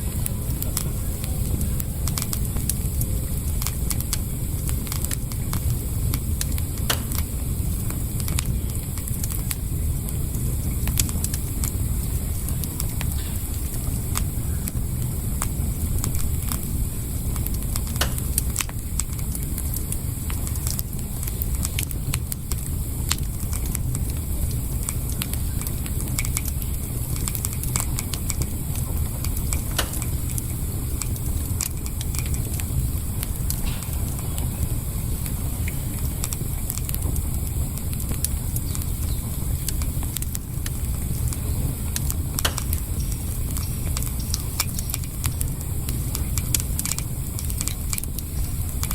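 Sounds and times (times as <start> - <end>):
campfire crackling and popping: 0.0 - 48.9
low fire rumble: 0.0 - 48.9.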